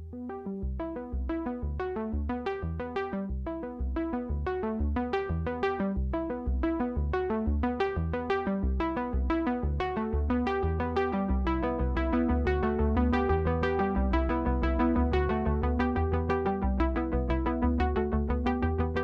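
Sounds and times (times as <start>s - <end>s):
electronic music with synthesizer: 0.0s - 19.0s.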